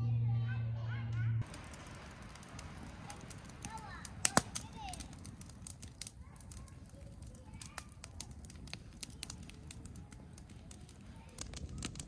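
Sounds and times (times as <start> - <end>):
campfire crackling and popping: 1.4 - 12.0.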